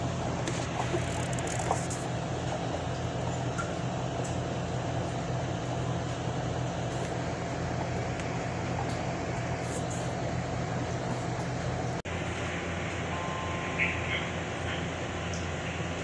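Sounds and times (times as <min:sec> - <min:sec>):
machine-like hum: 0:00.0 - 0:16.0.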